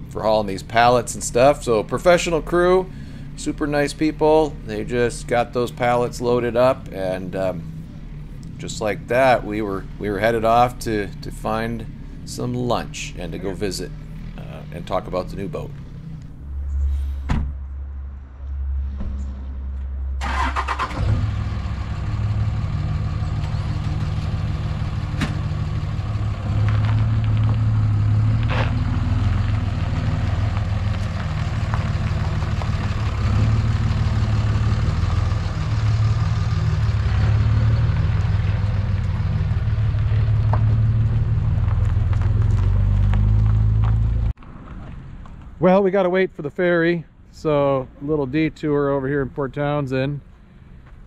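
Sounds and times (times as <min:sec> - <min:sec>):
pickup truck engine running: 0:00.0 - 0:16.9, 0:20.2 - 0:44.4.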